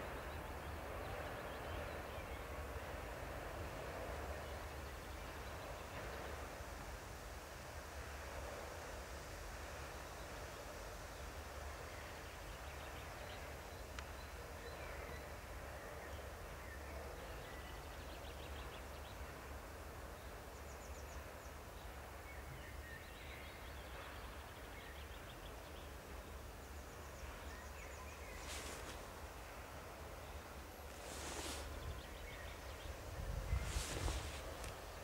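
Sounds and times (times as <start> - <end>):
faint hiss: 0.0 - 35.0.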